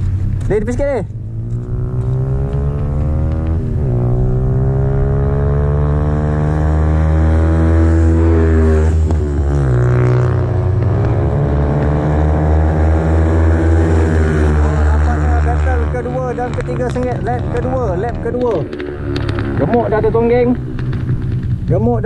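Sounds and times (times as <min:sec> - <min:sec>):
low engine drone: 0:00.0 - 0:21.7
motorcycle engines revving: 0:00.0 - 0:22.0.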